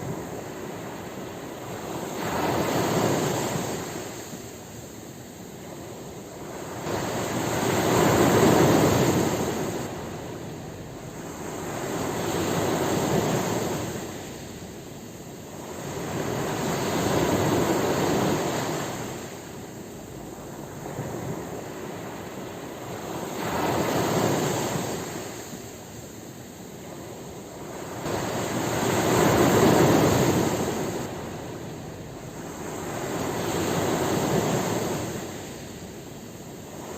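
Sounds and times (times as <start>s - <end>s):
ocean waves breaking on shore: 0.0s - 36.9s.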